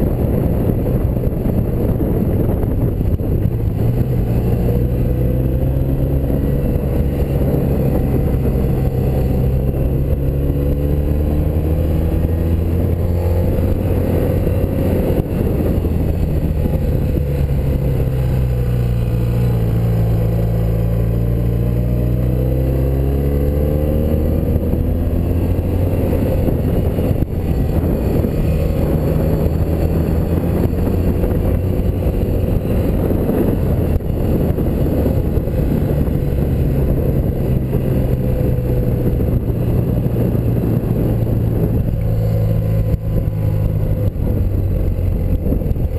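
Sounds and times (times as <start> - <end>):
motorcycle engine running: 0.0 - 45.9
wind noise: 0.0 - 45.9.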